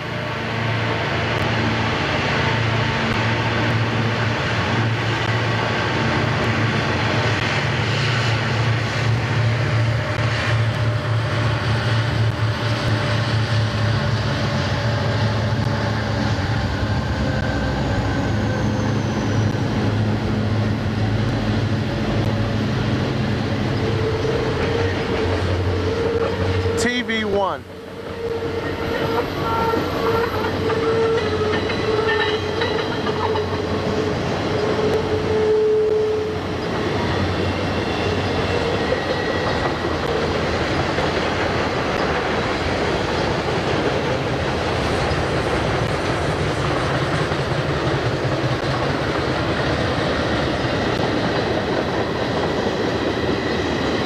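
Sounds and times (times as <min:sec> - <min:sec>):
diesel locomotives droning: 0:00.0 - 0:54.0.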